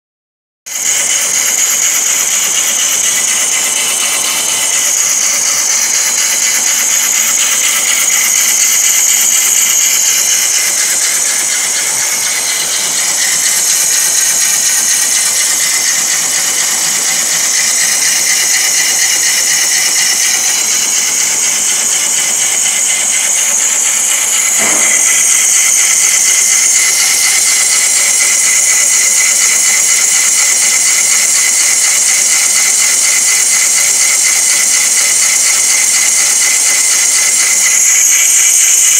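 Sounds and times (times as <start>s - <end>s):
lathe cutting wood: 0.7s - 38.9s
machine knock: 0.7s - 38.9s.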